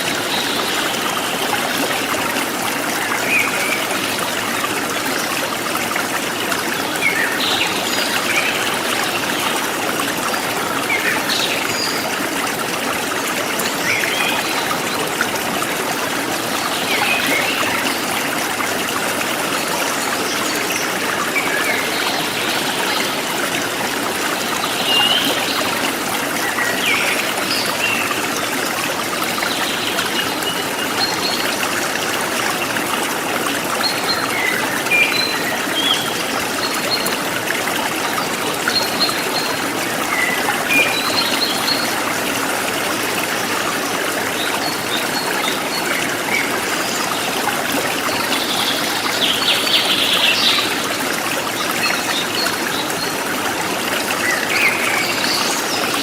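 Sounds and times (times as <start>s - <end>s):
forest stream trickling: 0.0s - 56.0s.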